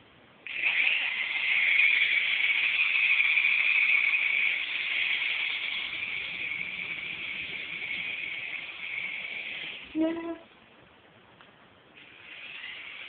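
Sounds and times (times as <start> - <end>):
toy helicopter motor whirring: 0.4 - 10.1, 12.0 - 13.0.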